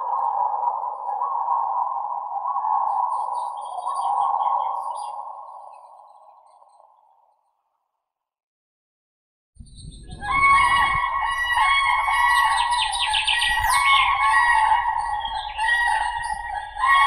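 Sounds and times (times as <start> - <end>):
higher bird chirps: 0.0 - 7.2, 9.8 - 17.0.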